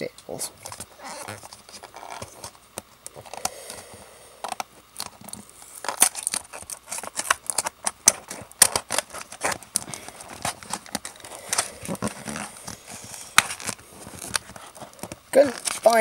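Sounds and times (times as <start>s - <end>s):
cardboard and plastic crinkling: 0.4s - 16.0s.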